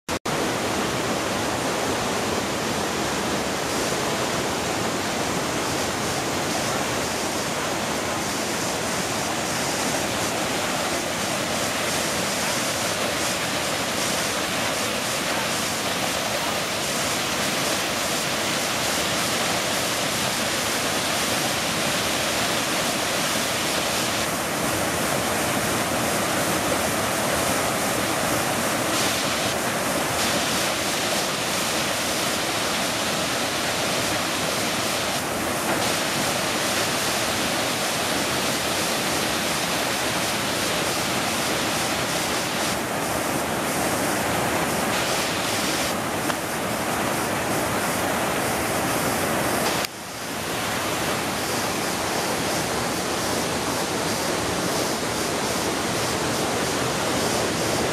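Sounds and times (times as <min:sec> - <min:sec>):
waterfall rushing: 0:00.2 - 0:57.9.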